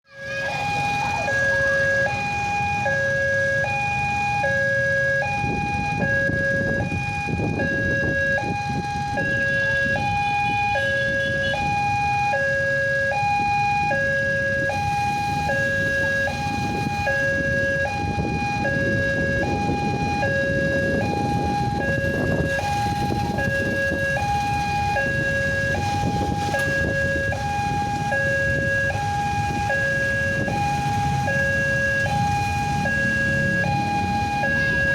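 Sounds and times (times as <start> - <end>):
two-tone level crossing alarm: 0.2 - 34.9.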